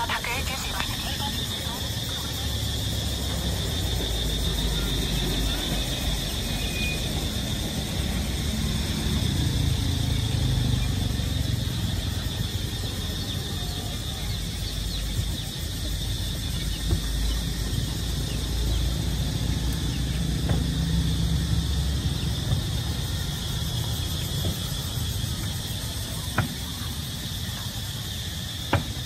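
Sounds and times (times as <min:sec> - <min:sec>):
low rumble of passing traffic: 0:00.0 - 0:29.0.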